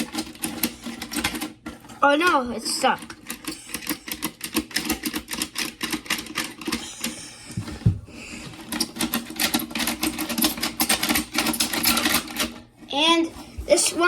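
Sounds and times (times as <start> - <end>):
plastic toys clicking and clacking: 0.0 - 7.8, 8.5 - 14.0.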